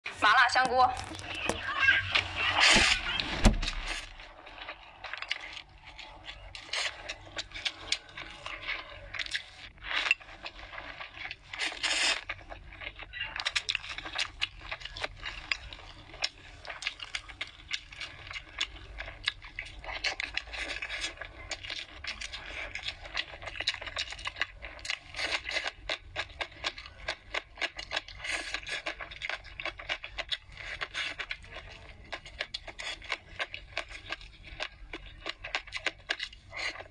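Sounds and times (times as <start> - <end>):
wet chewing and lip smacking: 0.5 - 36.9.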